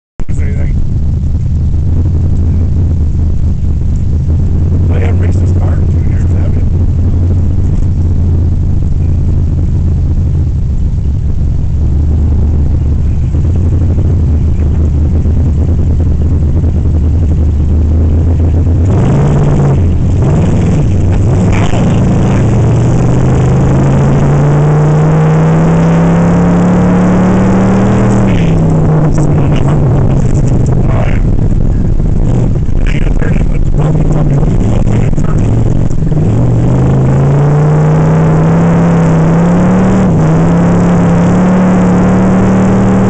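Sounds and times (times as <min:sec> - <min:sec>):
car engine revving: 0:00.2 - 0:43.0.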